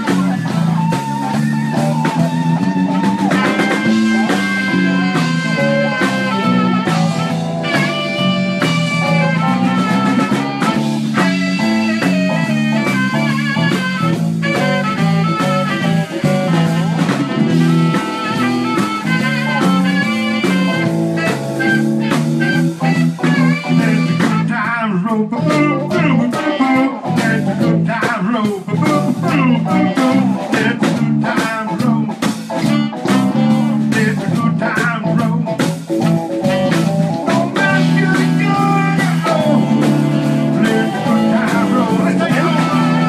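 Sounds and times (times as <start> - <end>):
blues band playing: 0.0 - 43.0
electric guitar lead line: 0.0 - 43.0.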